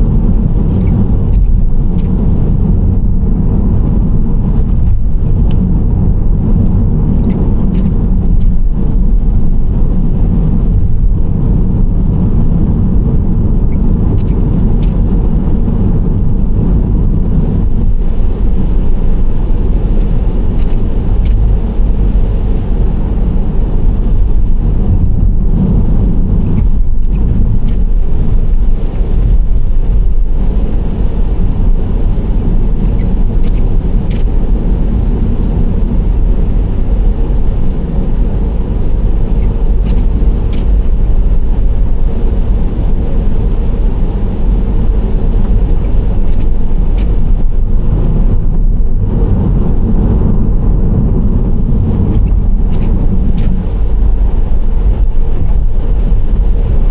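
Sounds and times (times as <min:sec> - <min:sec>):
minivan road and engine rumble: 0:00.0 - 0:56.9.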